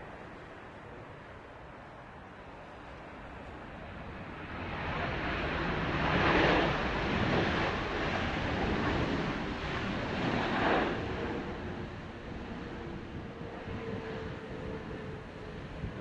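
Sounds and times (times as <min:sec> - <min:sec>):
jet engine roar: 0:00.0 - 0:16.0
wind buffeting microphone: 0:00.0 - 0:16.0.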